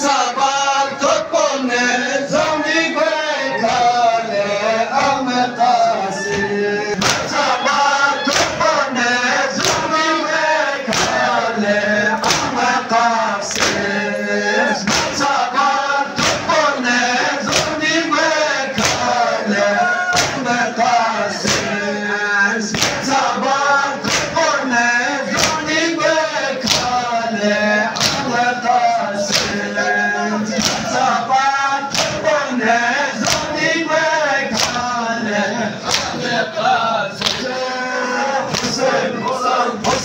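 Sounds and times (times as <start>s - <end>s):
men chanting in unison: 0.0s - 40.0s
rhythmic chest-beating thumps: 0.0s - 40.0s.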